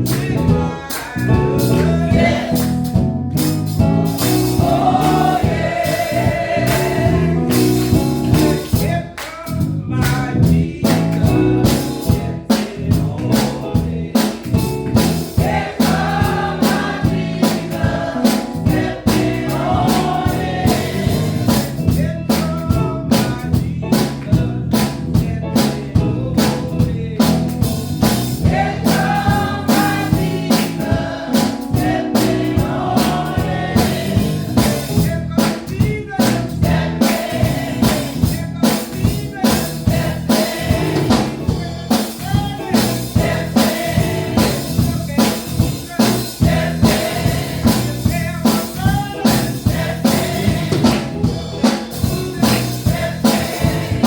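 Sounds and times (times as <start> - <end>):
voices singing together: 0.0 - 3.1, 3.8 - 23.6, 25.6 - 54.0
drum kit beat: 0.0 - 54.0.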